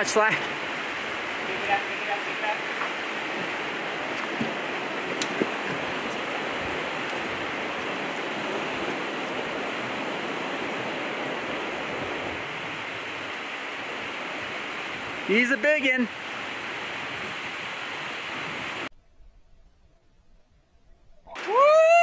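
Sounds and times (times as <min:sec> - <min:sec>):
river water flowing over rocks: 0:00.0 - 0:18.9.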